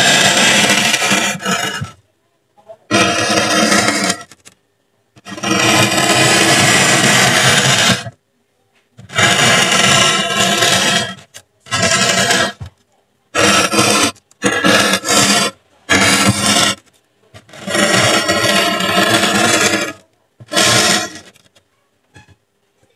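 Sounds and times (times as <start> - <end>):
metal tip rasping on foam: 0.0 - 2.0, 2.9 - 4.5, 5.2 - 8.2, 9.0 - 12.7, 13.3 - 21.6.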